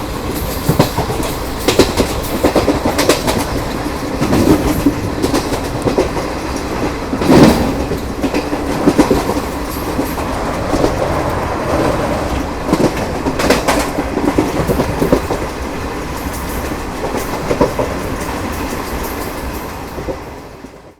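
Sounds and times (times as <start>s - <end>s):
train wheels rumbling on rails: 0.0s - 20.6s
wheels clickety-clack over rail joints: 0.0s - 20.9s.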